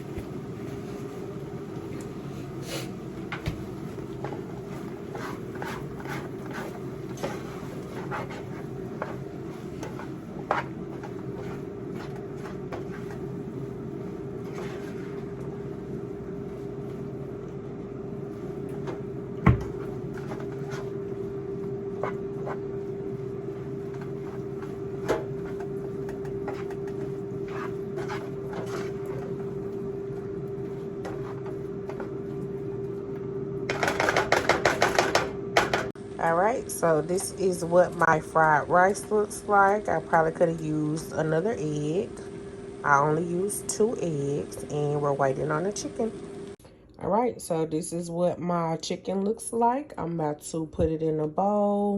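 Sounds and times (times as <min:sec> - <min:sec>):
kitchen fan humming: 0:00.0 - 0:51.9.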